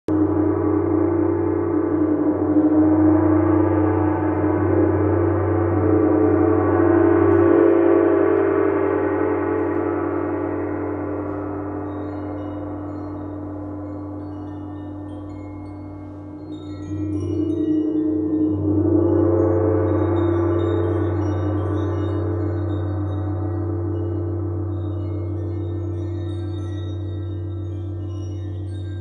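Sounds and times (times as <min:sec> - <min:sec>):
gong ringing: 0:00.1 - 0:29.0.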